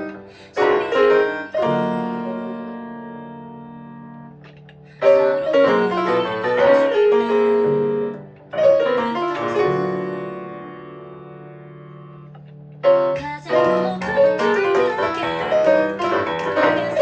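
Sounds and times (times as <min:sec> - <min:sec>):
piano playing pop song: 0:00.0 - 0:17.0.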